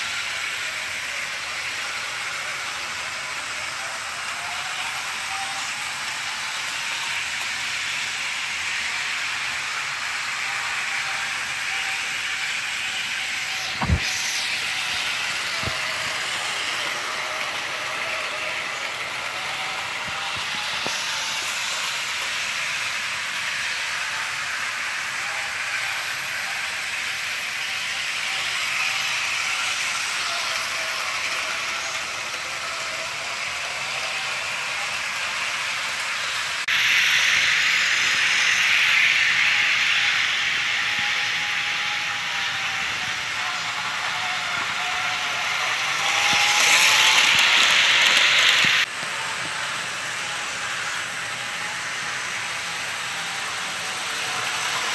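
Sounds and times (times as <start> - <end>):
model train wheels rattling: 0.2 - 54.9.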